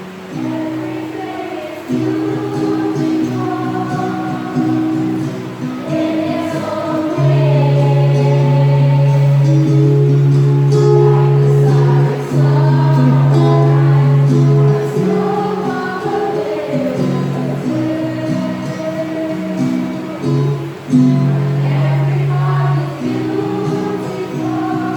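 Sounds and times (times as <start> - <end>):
choir singing a hymn: 0.0 - 24.9
instrumental accompaniment: 2.0 - 24.9.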